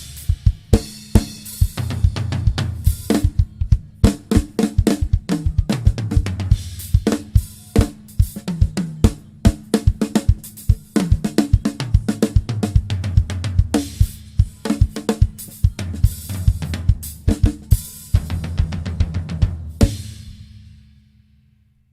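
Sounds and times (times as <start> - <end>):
fast drum kit playing: 0.0 - 21.2
cymbal and hi-hat wash: 0.0 - 21.3.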